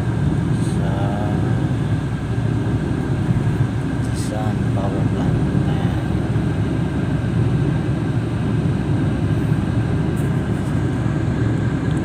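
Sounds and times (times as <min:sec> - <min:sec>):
vehicle engine and tyre rumble: 0:00.0 - 0:12.0.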